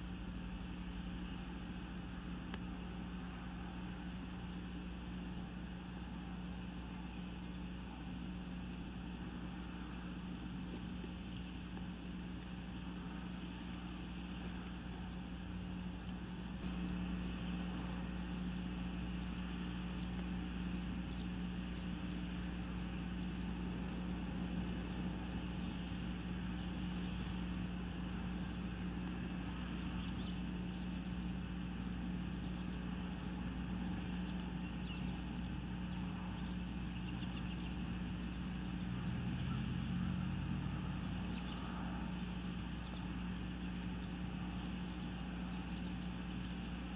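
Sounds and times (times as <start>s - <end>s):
low hum: 0.0s - 46.9s.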